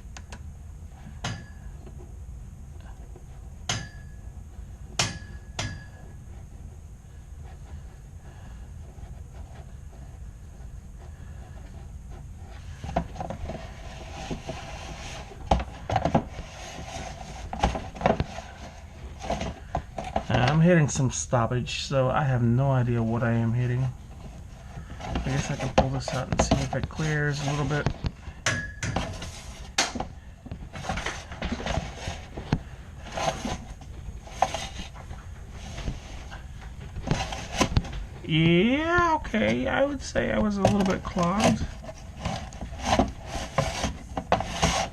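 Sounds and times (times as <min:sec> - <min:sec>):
low steady rumble: 0:00.0 - 0:44.7
brush scraping inside vent duct: 0:02.8 - 0:44.9.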